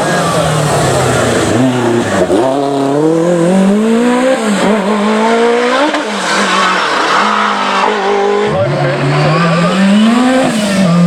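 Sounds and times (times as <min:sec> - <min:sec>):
rally car engine under hard throttle: 0:00.0 - 0:11.0.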